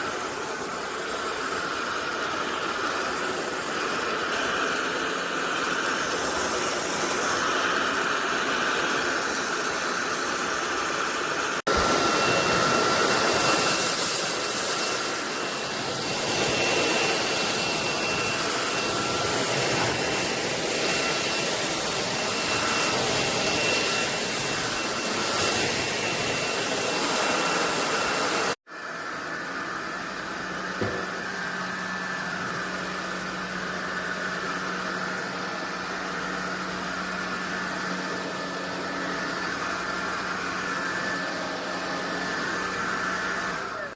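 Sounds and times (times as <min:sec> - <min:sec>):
high whine: 0:00.0 - 0:43.9
stick vacuum running: 0:00.0 - 0:43.9.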